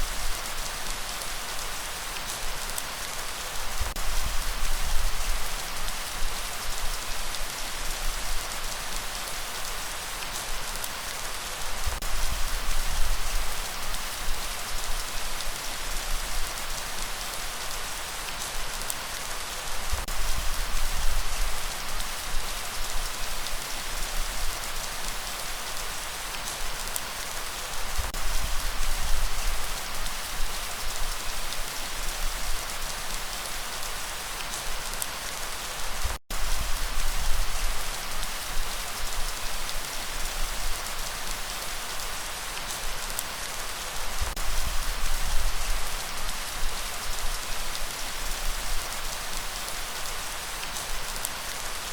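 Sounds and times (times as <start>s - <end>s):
dense rainfall hissing: 0.0s - 51.9s.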